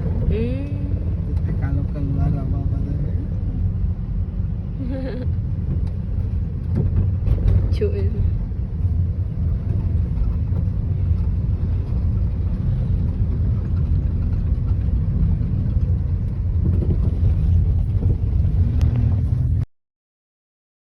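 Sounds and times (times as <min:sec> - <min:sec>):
car engine and road noise: 0:00.0 - 0:19.7.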